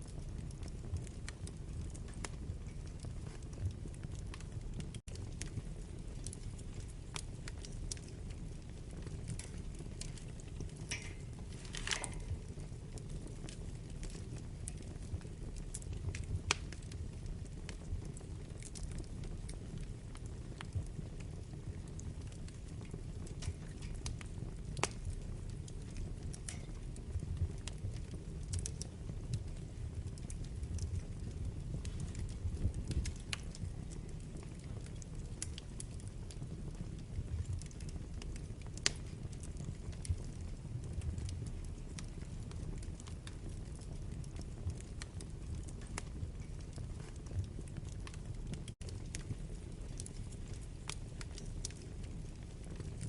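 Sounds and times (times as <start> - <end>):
rumble of fire flames: 0.0 - 53.0
wood crackling and popping: 0.0 - 53.0.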